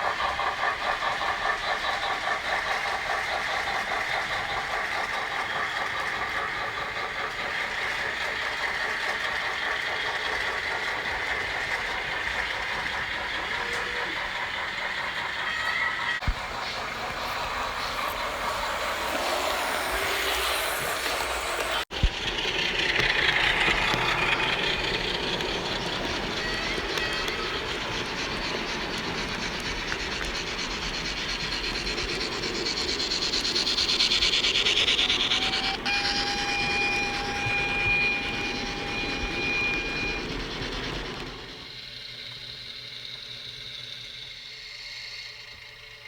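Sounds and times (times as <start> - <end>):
locomotive sounds through small speakers: 0.0 - 46.0.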